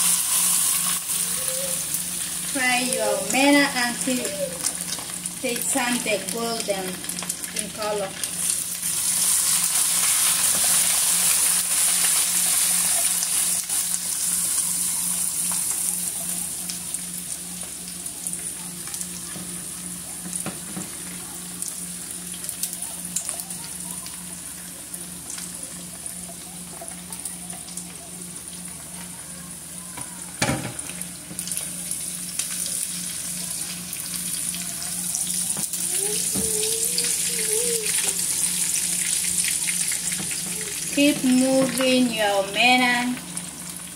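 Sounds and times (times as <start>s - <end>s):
fish sizzling in hot oil: 0.0s - 28.8s, 30.4s - 43.9s.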